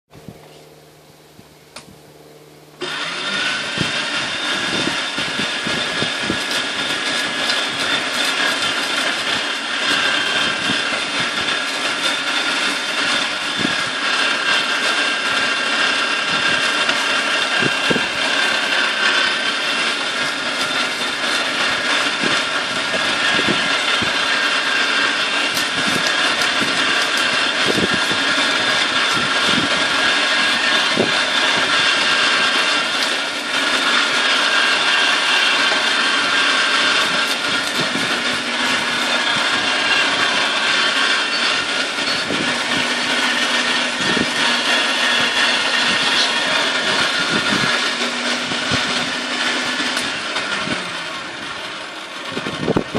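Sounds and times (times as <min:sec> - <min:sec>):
auger crunching charcoal: 0:02.8 - 0:52.9
electric meat grinder motor whining: 0:02.8 - 0:52.9.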